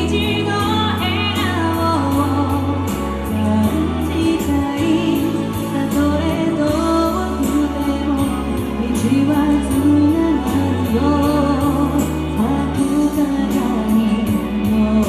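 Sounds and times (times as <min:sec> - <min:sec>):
bass line: 0:00.0 - 0:15.0
woman singing pop song: 0:00.0 - 0:15.0.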